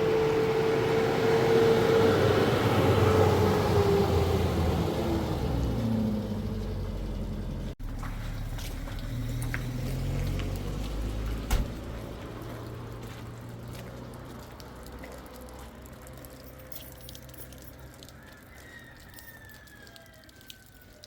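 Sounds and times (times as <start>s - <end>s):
vehicle engine humming: 0.0s - 18.3s.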